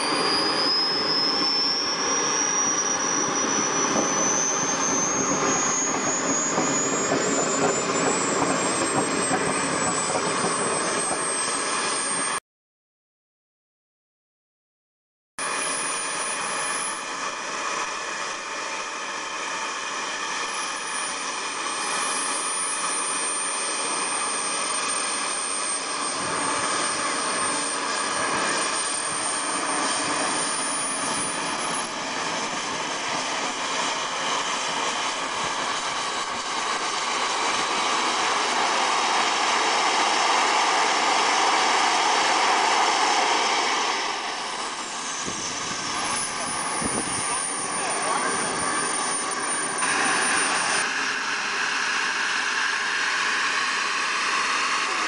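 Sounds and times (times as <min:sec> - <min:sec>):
rushing jet exhaust: 0:00.0 - 0:12.4, 0:15.4 - 0:55.0
turbine engine whine: 0:00.0 - 0:12.4, 0:15.4 - 0:55.0.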